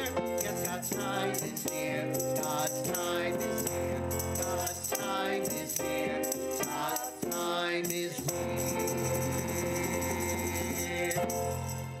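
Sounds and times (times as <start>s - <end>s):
congregation singing a hymn: 0.0s - 12.0s.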